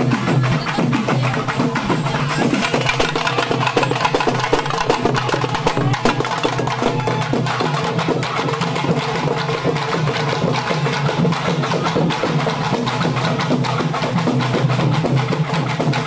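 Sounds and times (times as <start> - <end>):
fast barrel and frame drumming: 0.0 - 16.0.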